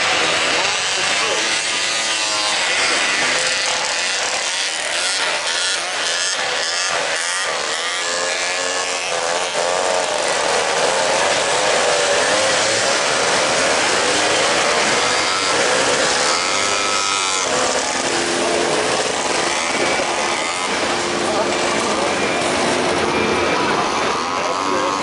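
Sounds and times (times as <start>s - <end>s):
snowmobile engines buzzing and revving: 0.0s - 25.0s.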